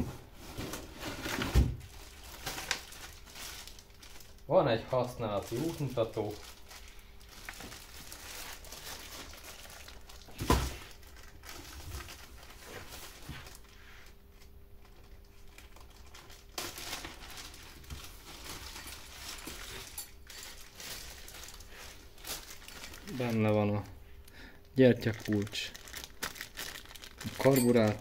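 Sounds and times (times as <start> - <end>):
packaging rustling and crinkling: 0.3 - 28.0.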